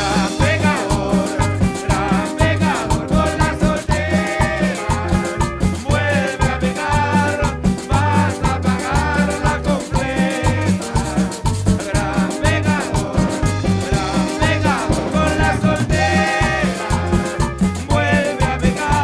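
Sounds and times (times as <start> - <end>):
cumbia music with bass beat: 0.0 - 19.0.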